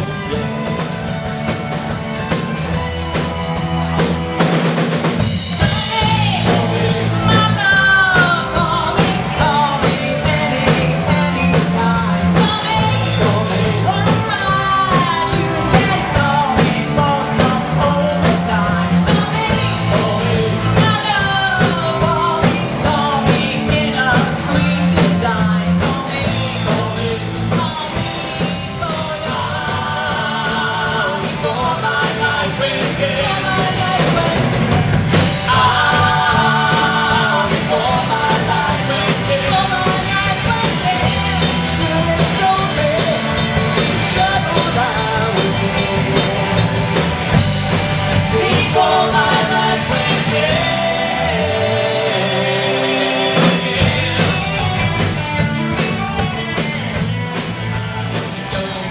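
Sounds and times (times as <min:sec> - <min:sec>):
live rock band playing: 0:00.0 - 0:58.9
person singing: 0:05.5 - 0:46.8, 0:48.1 - 0:56.4.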